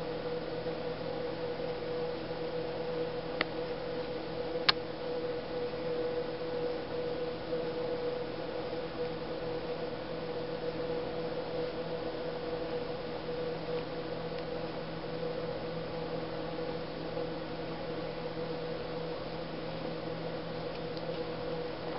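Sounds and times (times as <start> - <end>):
low even hum: 0.0 - 21.9.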